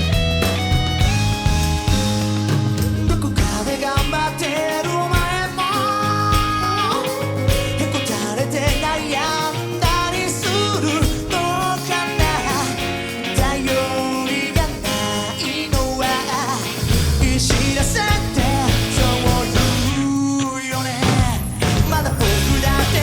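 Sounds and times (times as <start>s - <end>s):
lead guitar bent notes: 0.0s - 20.1s
pop-rock band playing: 0.0s - 23.0s.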